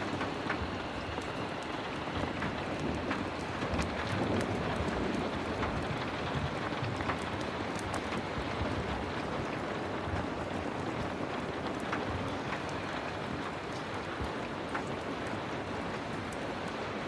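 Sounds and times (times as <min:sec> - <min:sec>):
heavy rain: 0:00.0 - 0:17.0
small sharp crackles: 0:00.0 - 0:17.0.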